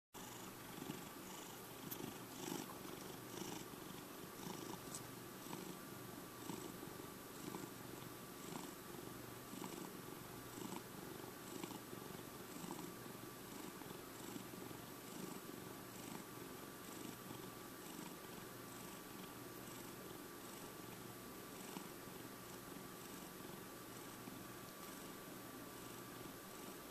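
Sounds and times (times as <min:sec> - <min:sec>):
cat purring: 0:00.2 - 0:26.9.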